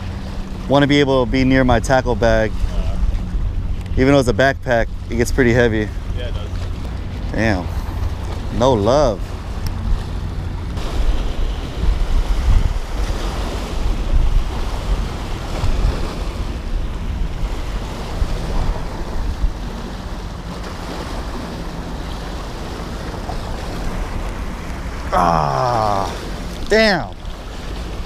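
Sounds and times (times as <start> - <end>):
wind buffeting microphone: 0.0 - 28.0
small waves on rocky shore: 5.0 - 28.0.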